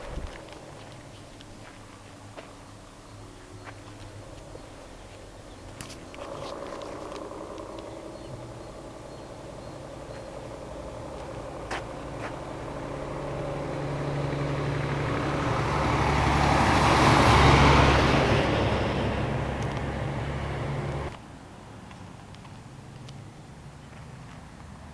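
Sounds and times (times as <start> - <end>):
fire engine driving past: 0.0 - 21.8.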